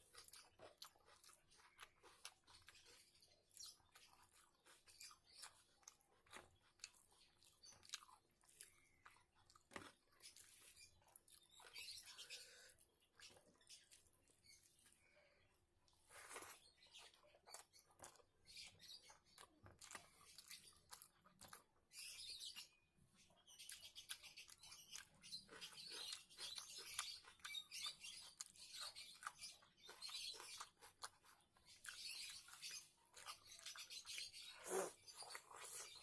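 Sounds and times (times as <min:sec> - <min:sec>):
chewing and lip-smacking: 0:00.0 - 0:15.1, 0:15.8 - 0:36.0.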